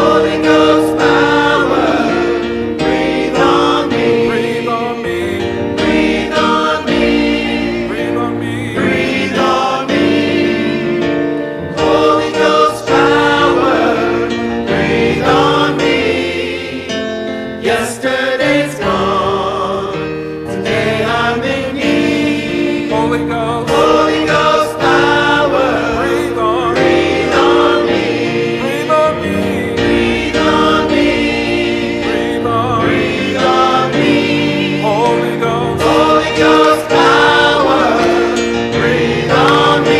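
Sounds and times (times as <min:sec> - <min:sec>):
gospel choir singing: 0:00.0 - 0:39.9
instrumental accompaniment chords: 0:00.0 - 0:39.9.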